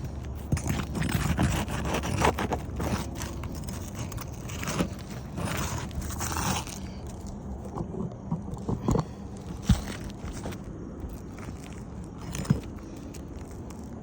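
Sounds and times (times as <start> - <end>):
tool scraping under shingles: 0.0 - 14.0.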